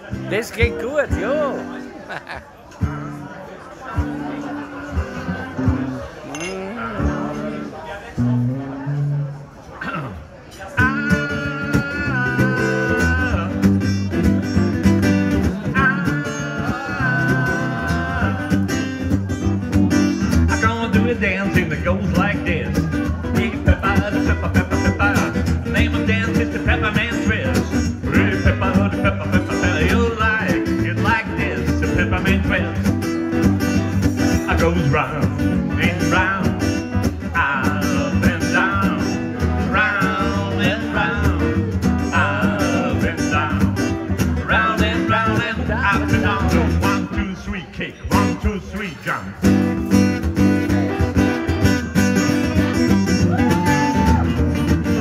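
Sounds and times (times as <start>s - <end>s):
acoustic guitar strumming: 0.0s - 2.0s, 2.8s - 55.0s.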